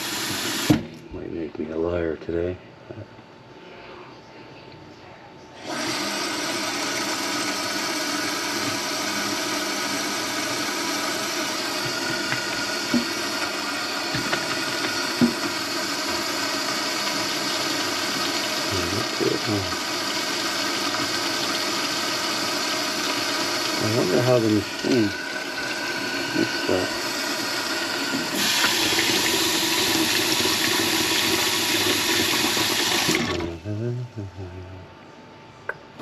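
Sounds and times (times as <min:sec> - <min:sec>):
drain-cleaning machine motor whining: 0:00.0 - 0:00.8, 0:05.6 - 0:33.8.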